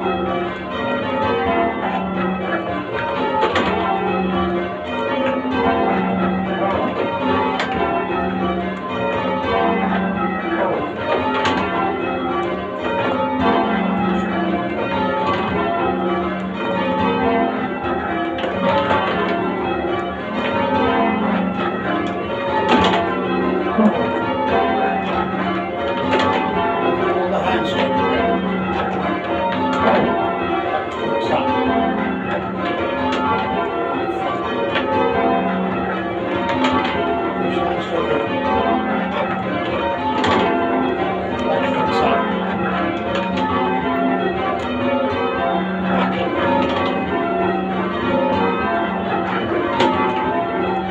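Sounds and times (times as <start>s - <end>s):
church bells change ringing: 0.0s - 50.9s.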